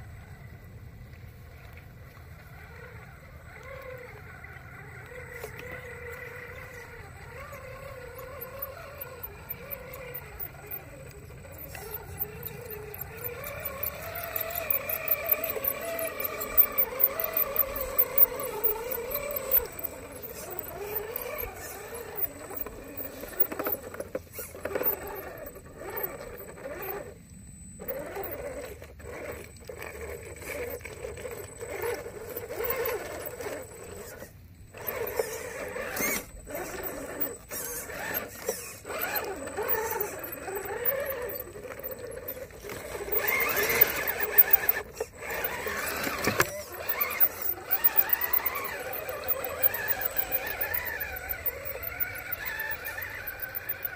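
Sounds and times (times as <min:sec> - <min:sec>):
electric motor and gears whining: 0:00.0 - 0:53.9.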